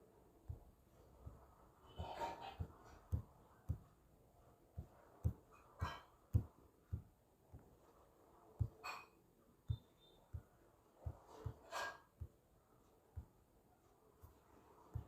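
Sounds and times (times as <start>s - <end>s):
soft dull taps: 0.4s - 9.0s, 9.6s - 15.0s.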